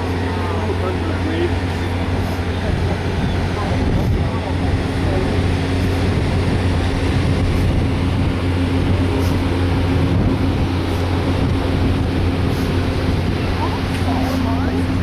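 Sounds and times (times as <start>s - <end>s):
machinery rumbling and droning: 0.0s - 15.0s.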